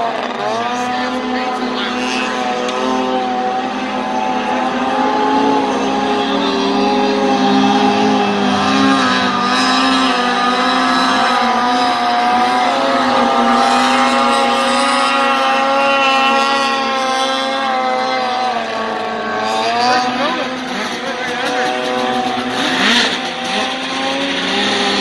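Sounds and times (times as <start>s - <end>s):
snowmobile engines at high revs: 0.0s - 25.0s.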